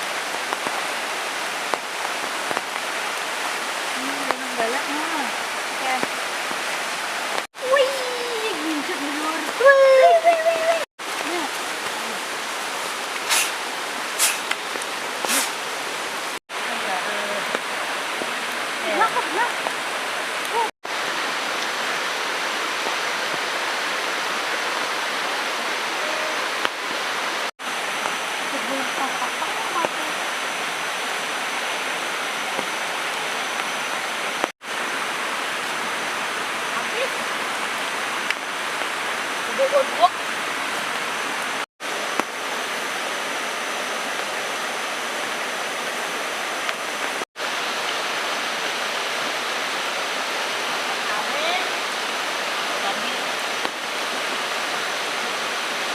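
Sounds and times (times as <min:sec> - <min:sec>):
heavy rain falling: 0:00.0 - 0:55.9
water rushing: 0:00.0 - 0:55.9.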